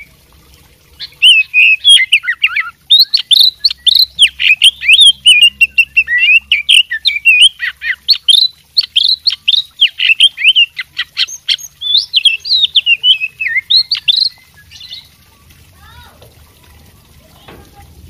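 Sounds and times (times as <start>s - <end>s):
bird singing: 0.9s - 15.6s.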